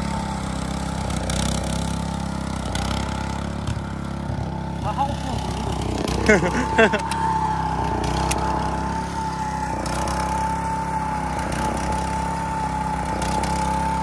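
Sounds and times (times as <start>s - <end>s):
small engine running with whine: 0.0s - 14.0s.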